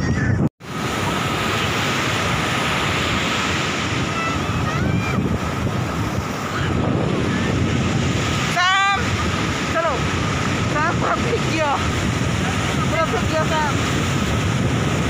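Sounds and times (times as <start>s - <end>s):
wind buffeting microphone: 0.0s - 15.0s
surf breaking on rocky beach: 0.6s - 15.0s.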